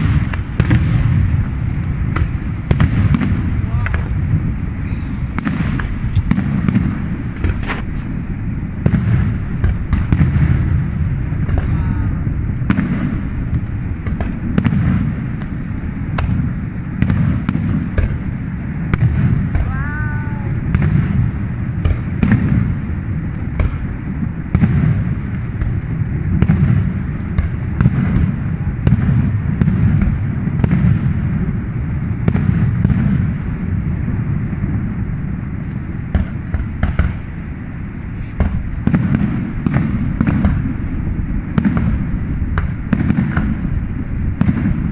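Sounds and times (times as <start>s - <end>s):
fireworks bangs and crackles: 0.0s - 44.9s
low rumble: 0.0s - 44.9s.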